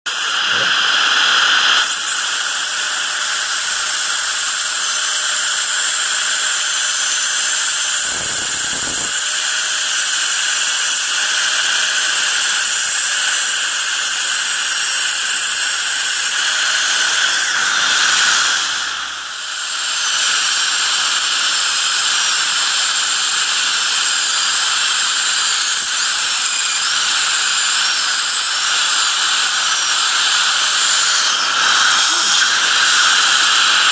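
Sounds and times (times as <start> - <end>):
suction tip hissing: 0.1 - 22.6, 24.2 - 33.9
dental drill whining: 0.1 - 33.9.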